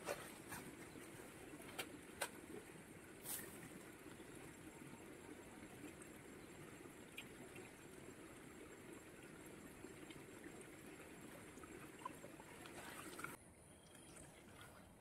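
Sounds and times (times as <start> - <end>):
flowing river: 0.0 - 13.4.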